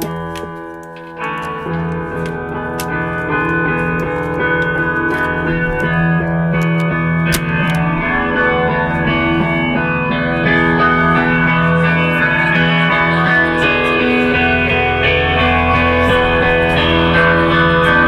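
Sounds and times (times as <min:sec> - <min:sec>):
electric guitar through amplifier: 0:00.0 - 0:18.0.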